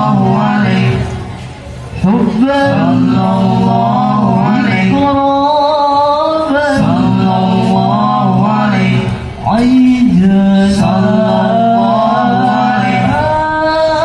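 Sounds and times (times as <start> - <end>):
men singing a devotional chant: 0.0 - 1.2, 2.0 - 14.0.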